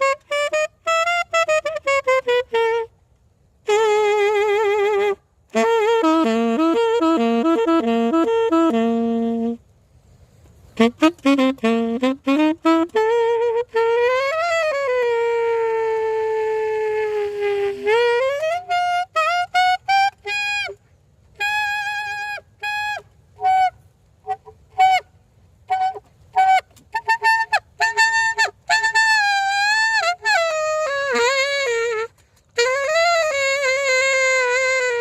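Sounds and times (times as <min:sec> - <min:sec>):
solo saxophone melody: 0:00.0 - 0:35.0.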